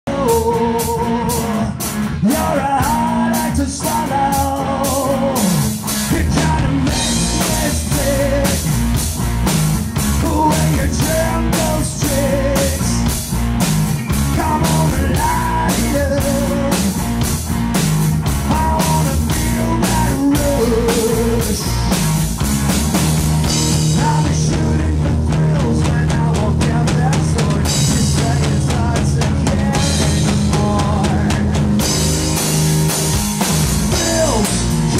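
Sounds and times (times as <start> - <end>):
bass guitar: 0.0 - 34.9
drum kit beat: 0.1 - 34.9
electric guitar: 0.1 - 34.9.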